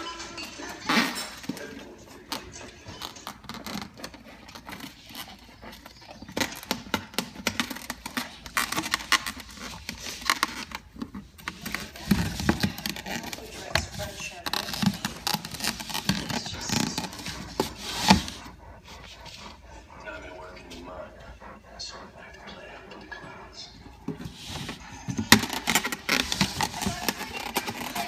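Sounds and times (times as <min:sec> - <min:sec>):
paws scratching cardboard: 0:00.0 - 0:28.0.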